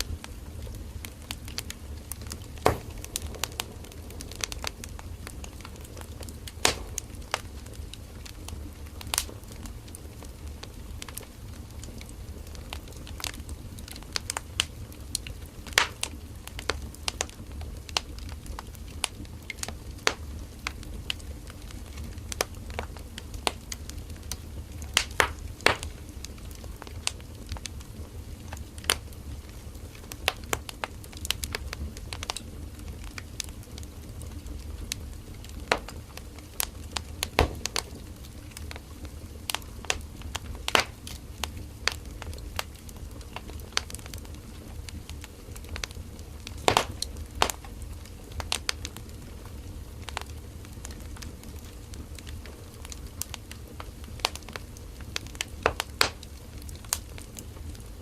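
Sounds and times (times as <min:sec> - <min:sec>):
campfire crackling and popping: 0:00.0 - 0:58.0
low fire rumble: 0:00.0 - 0:58.0.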